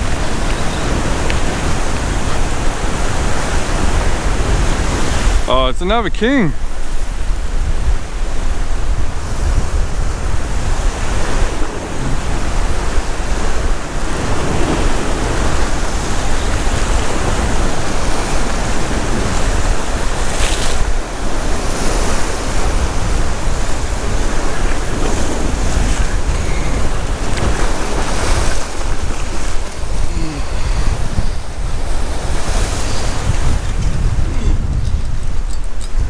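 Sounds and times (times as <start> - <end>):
waves breaking against rocks: 0.0 - 36.0
wind buffeting microphone: 0.0 - 36.0.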